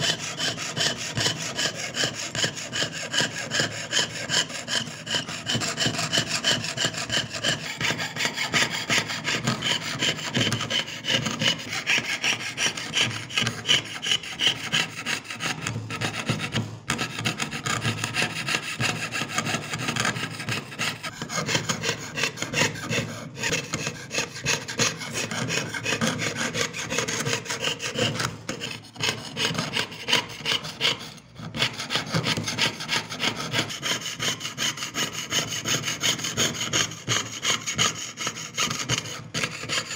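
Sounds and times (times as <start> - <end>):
saw cutting thin metal sheet: 0.0 - 39.9.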